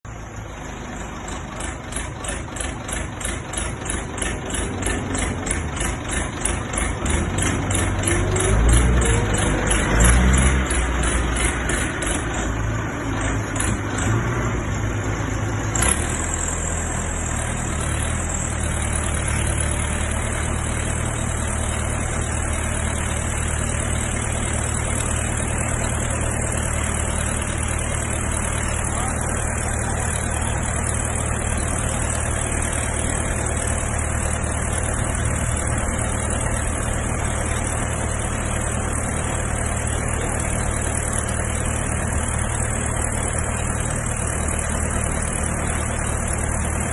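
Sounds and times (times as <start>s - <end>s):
pile-driving machine engine drone: 0.0s - 46.9s.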